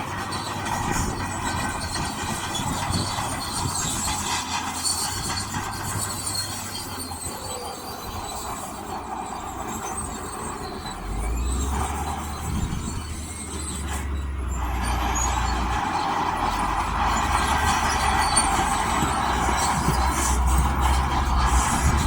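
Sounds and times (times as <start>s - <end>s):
diesel engine drone: 0.0s - 22.0s
steel tracks clanking and squeaking: 0.0s - 22.0s.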